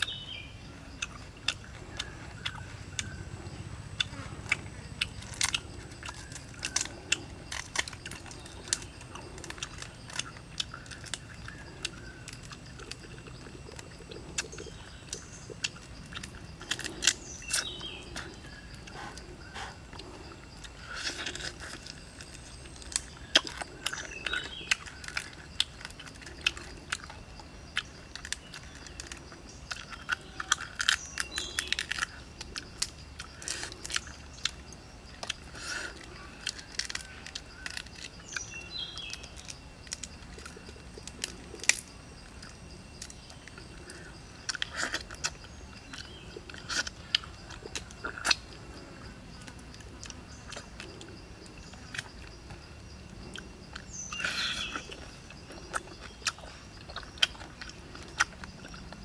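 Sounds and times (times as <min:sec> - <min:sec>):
chewing and sucking: 0:00.0 - 0:59.0
crayfish shell cracking: 0:04.0 - 0:59.0.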